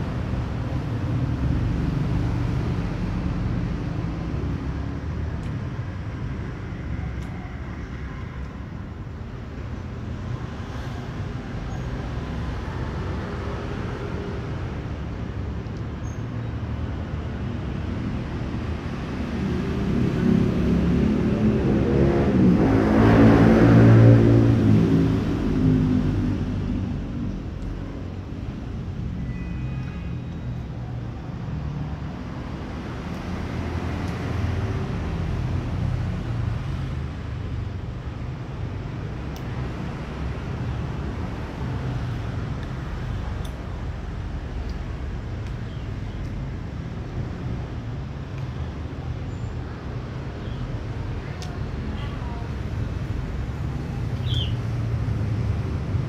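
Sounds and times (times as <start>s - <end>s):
low rumble of traffic: 0.0s - 56.0s
vehicle engine: 0.0s - 56.0s.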